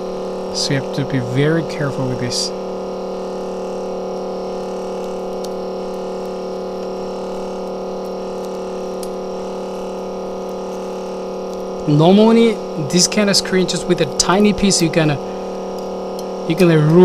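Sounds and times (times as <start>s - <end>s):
electrical machinery hum: 0.0s - 17.0s.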